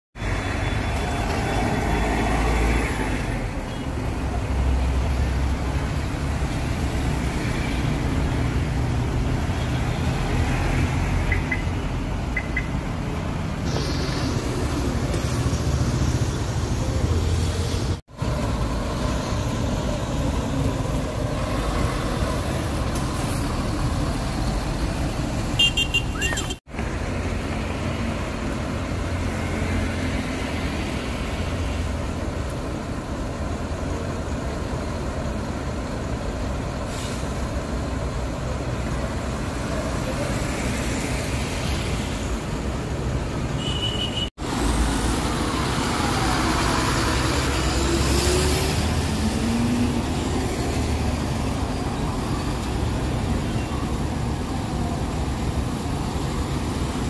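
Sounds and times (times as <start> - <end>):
diesel coach engines pulling away: 0.2 - 25.6, 26.2 - 43.6, 44.4 - 57.0
road traffic: 0.2 - 57.0.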